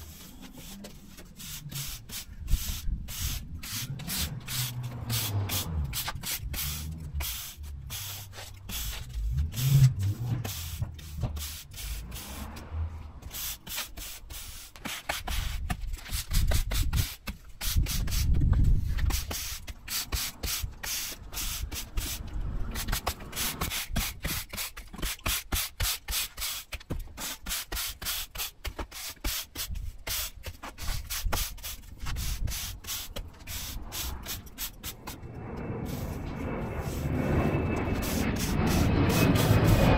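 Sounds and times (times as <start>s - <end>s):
broom sweeping sand on paving: 0.0s - 24.8s, 25.4s - 35.2s, 35.8s - 39.9s.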